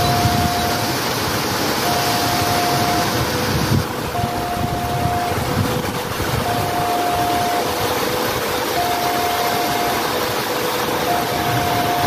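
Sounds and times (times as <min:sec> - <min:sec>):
level crossing two-tone alarm: 0:00.0 - 0:00.9, 0:01.8 - 0:03.5, 0:04.1 - 0:12.0
wind: 0:00.0 - 0:12.0.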